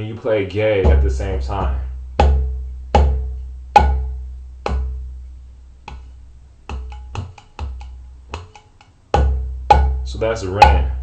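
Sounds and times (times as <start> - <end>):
hand drum strokes: 0.8 - 11.0.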